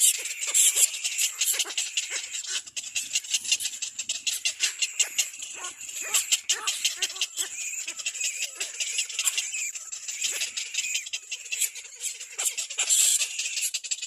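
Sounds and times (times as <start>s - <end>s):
cormorant chicks squealing: 0.0s - 14.0s.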